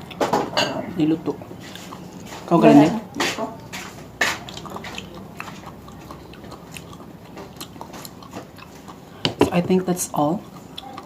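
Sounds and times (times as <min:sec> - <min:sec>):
person chewing: 0:00.0 - 0:00.6, 0:01.2 - 0:11.0.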